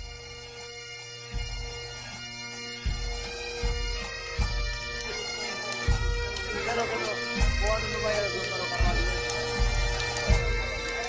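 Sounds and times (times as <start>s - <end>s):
bagpipe tune over drone: 0.0s - 11.0s.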